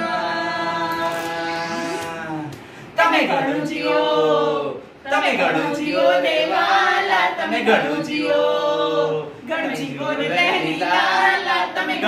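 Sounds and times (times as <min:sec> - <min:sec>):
group singing without instruments: 0:00.0 - 0:12.0.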